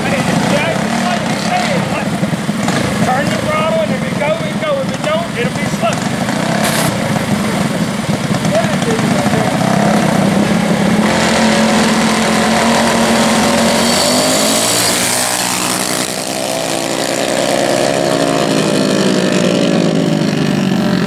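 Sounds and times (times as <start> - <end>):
minibike engines racing: 0.0 - 21.0.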